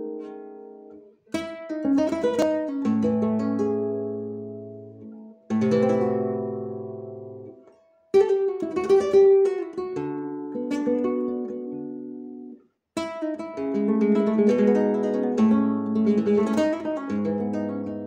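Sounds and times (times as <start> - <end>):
flamenco guitar: 0.0 - 18.0.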